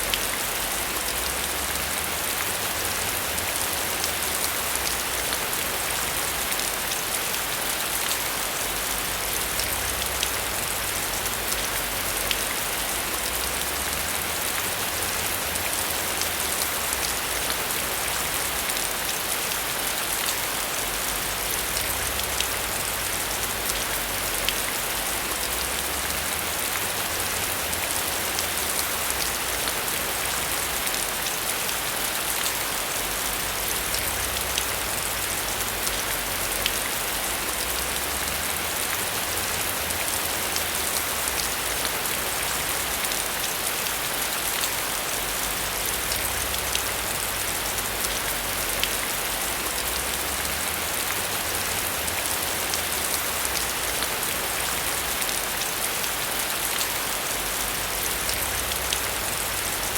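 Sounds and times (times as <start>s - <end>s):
heavy rain falling: 0.0s - 59.9s
raindrops ticking on a surface: 0.0s - 59.9s.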